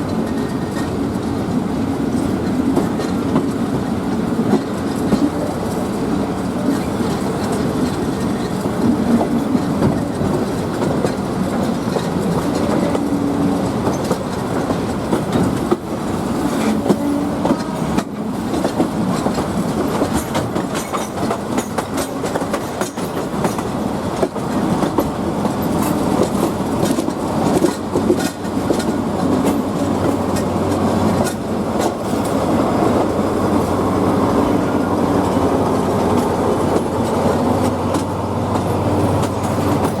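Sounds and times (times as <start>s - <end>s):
train rumble: 0.0s - 40.0s
train wheels clacking over rail joints: 0.0s - 40.0s.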